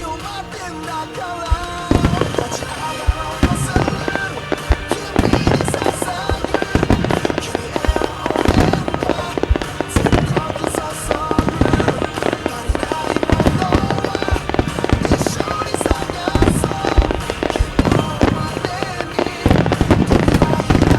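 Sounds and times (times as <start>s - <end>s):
fireworks booming: 0.0s - 20.9s
fireworks crackling and hissing: 0.0s - 20.9s
music: 0.0s - 20.9s.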